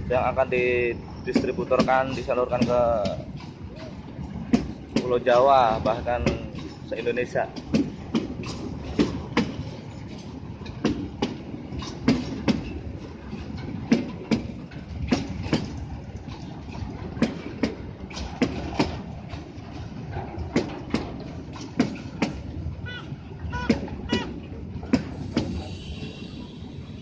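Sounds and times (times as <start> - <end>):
train wheels clicking over rail joints: 0.0 - 27.0.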